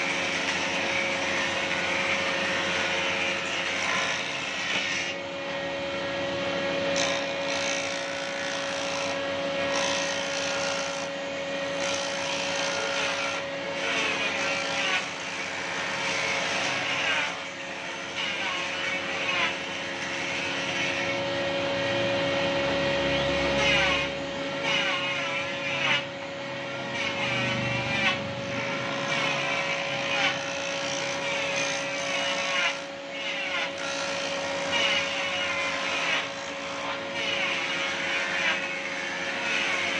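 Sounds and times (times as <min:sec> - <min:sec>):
board rasping on cutter: 0:00.0 - 0:39.9
jointer motor hum: 0:00.0 - 0:39.9.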